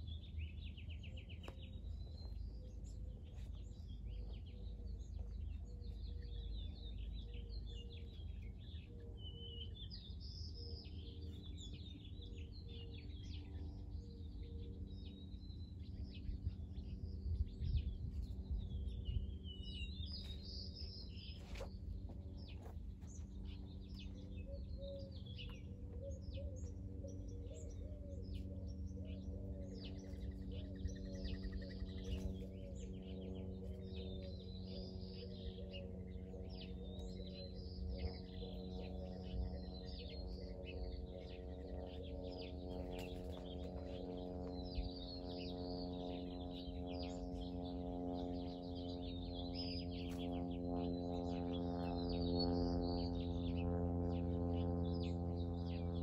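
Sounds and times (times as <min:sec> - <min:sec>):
low background rumble: 0:00.0 - 0:56.0
small birds chirping: 0:00.0 - 0:56.0.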